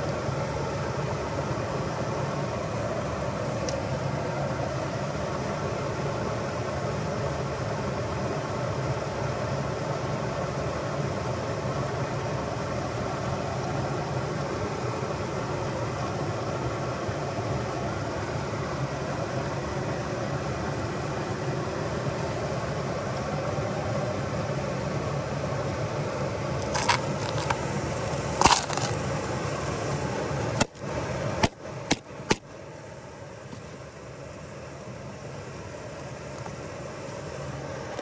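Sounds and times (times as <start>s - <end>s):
water rushing over waterfall: 0.0s - 33.1s.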